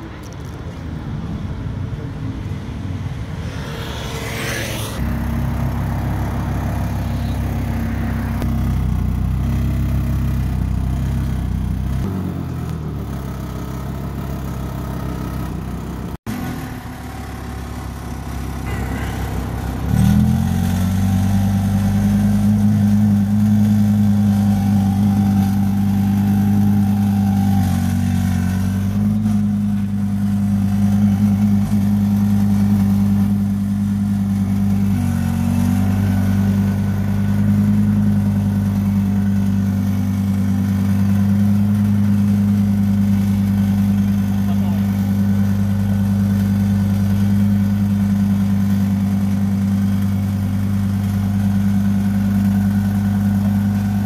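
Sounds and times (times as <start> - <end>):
sports car engine idling: 0.0 - 54.0.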